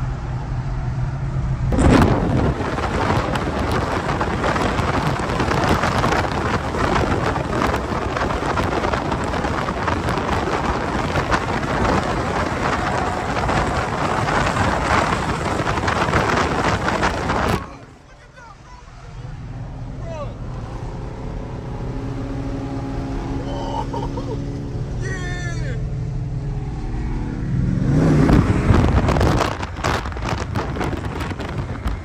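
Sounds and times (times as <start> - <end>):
car engine running: 0.0 - 32.0
rush of vehicle noise: 0.0 - 32.0.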